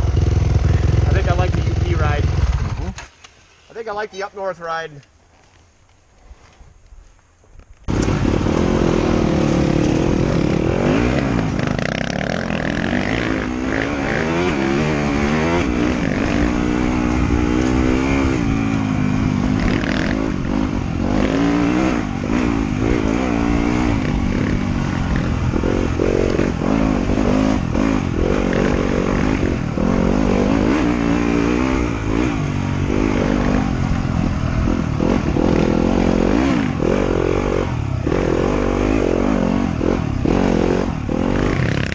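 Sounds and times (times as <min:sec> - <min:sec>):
motorcycle engine revving: 0:00.0 - 0:03.0, 0:07.9 - 0:41.9.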